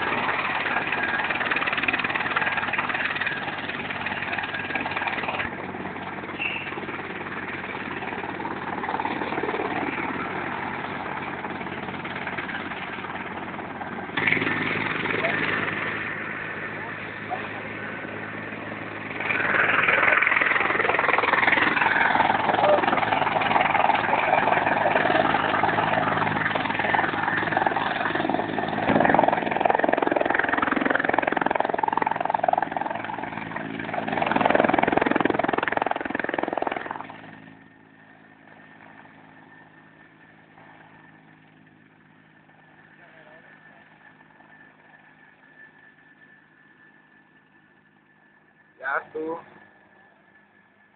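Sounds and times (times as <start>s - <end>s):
helicopter rotor and engine: 0.0s - 50.9s.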